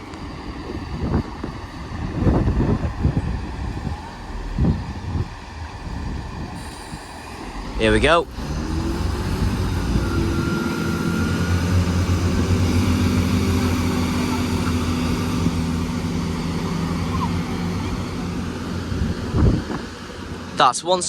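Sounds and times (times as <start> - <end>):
diesel train engine drone: 0.0 - 21.0.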